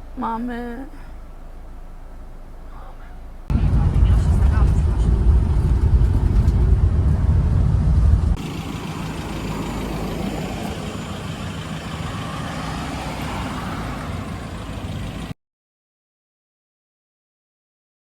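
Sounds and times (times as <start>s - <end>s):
car engine and road rumble: 0.0s - 15.4s.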